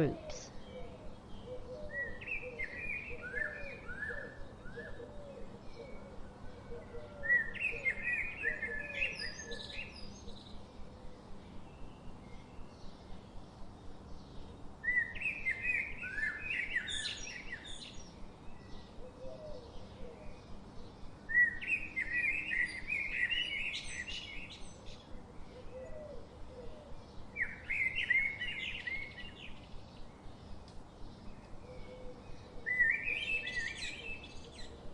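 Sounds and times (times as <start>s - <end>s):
bird warbling song: 0.0s - 10.7s, 14.2s - 34.9s.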